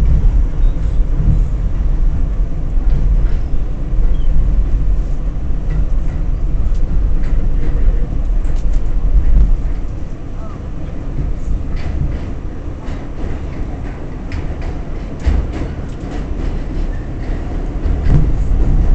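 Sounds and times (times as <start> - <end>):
subway wheels rumbling on rail: 0.0 - 18.9.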